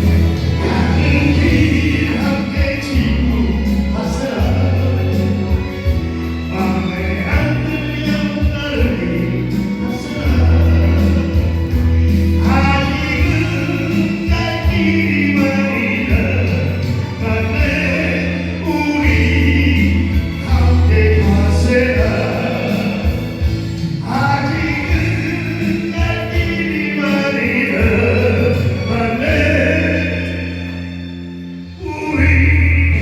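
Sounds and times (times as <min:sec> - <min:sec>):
sustained low bass notes: 0:00.0 - 0:33.0.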